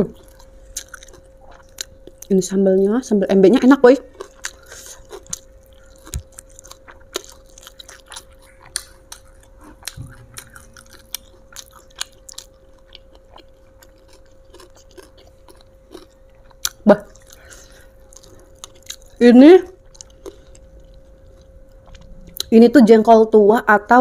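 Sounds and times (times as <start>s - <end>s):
crisp chewing crunches: 0.0s - 2.6s, 4.0s - 22.6s
faint steady hum: 0.0s - 24.0s.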